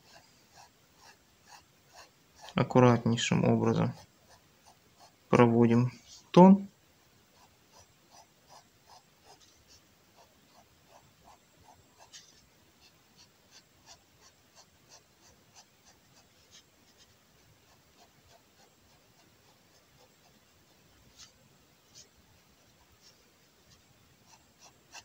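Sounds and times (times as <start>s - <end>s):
pen strokes on paper: 0.0s - 5.3s, 5.9s - 6.4s, 7.2s - 25.0s.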